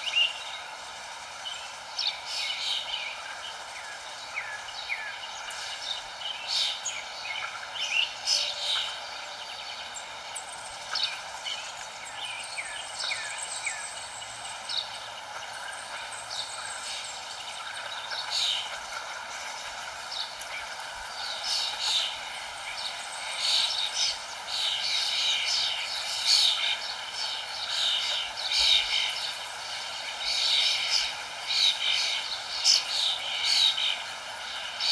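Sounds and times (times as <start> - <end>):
small birds chirping: 0.0 - 34.9
steady background noise: 0.0 - 34.9.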